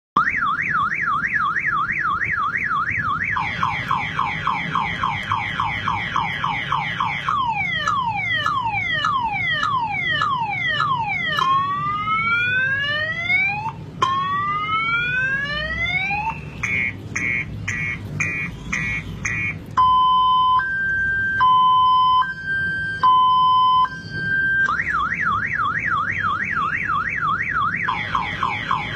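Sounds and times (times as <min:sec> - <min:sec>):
car alarm siren: 0:00.2 - 0:28.9.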